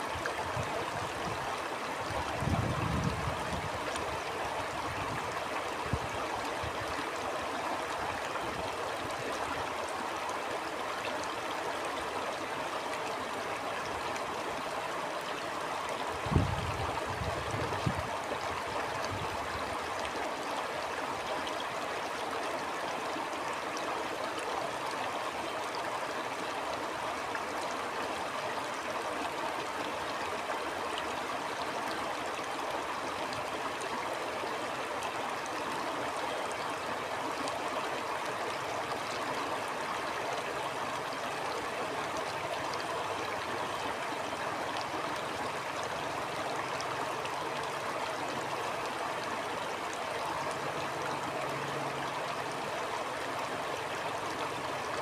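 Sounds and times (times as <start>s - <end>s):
stream water rushing and gurgling: 0.0s - 55.0s.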